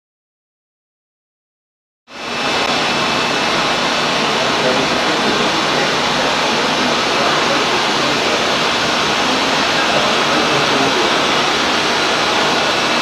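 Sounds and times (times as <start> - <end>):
machinery steady rushing noise: 2.1 - 13.0.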